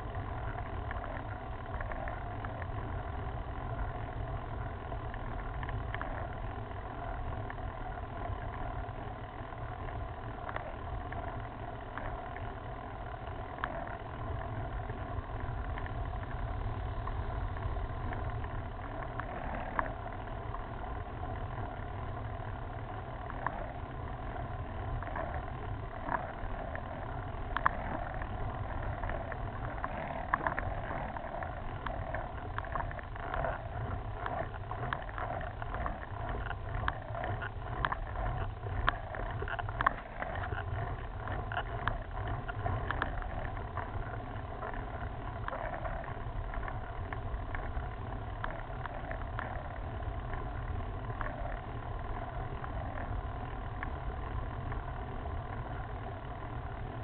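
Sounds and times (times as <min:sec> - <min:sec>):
bike tyre noise on asphalt: 0:00.0 - 0:57.0
sharp clicks and rattles: 0:00.0 - 0:57.0.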